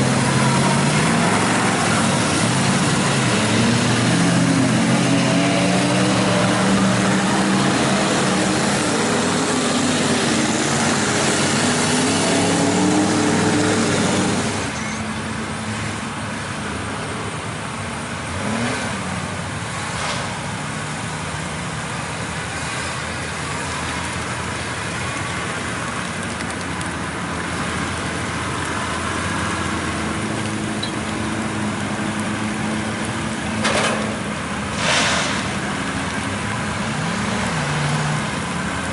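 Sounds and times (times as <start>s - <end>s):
truck engine revving: 0.0s - 14.8s, 18.1s - 38.9s.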